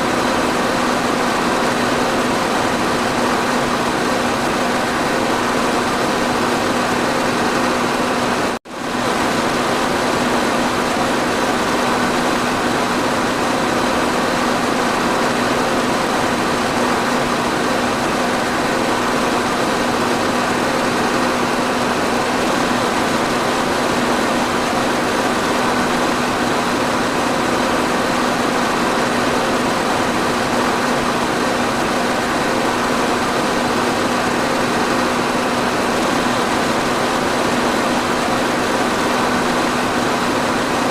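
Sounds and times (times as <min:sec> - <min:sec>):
electric fan running: 0:00.0 - 0:40.9.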